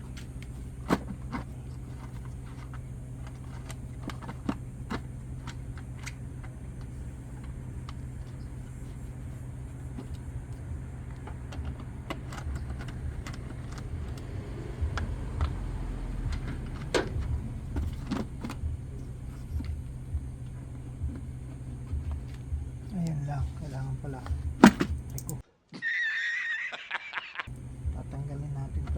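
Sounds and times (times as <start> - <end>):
hand tools and plastic parts clicking: 0.0 - 25.4
steady low hum: 0.0 - 25.4, 27.5 - 28.9.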